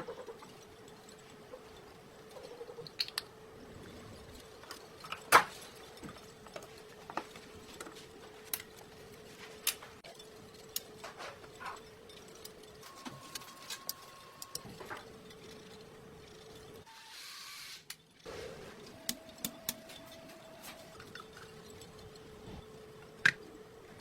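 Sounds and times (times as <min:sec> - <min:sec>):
faint steady hum: 0:00.0 - 0:16.9, 0:17.9 - 0:24.0.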